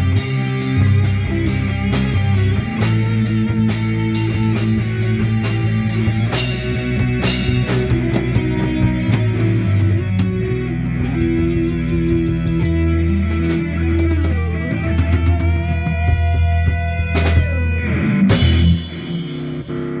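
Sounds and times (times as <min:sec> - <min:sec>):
distorted electric guitars: 0:00.0 - 0:20.0
drum kit and cymbal hits: 0:00.0 - 0:20.0
low bass notes: 0:00.0 - 0:20.0.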